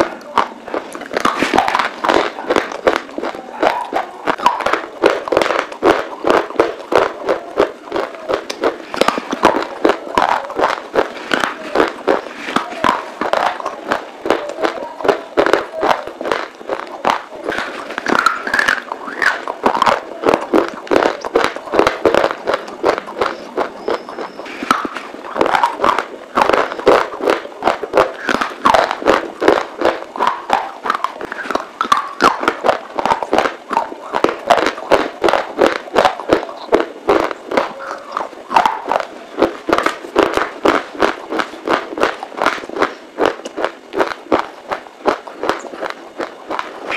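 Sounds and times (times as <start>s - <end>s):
crunching and chewing: 0.0s - 46.9s.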